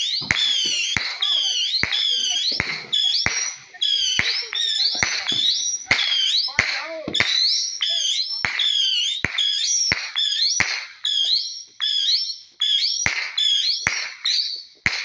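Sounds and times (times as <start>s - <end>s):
fireworks bangs: 0.0s - 15.0s
high-pitched firework whistles: 0.0s - 15.0s.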